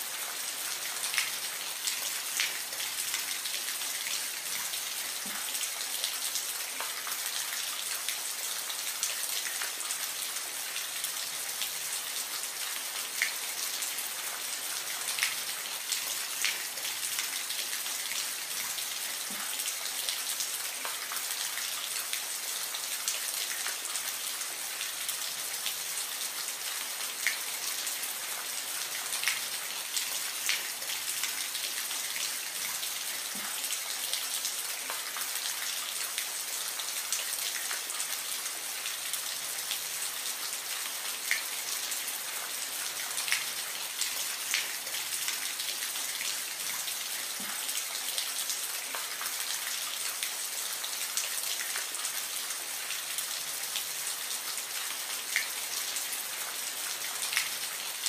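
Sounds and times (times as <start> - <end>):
soft steady rain: 0.0 - 58.0.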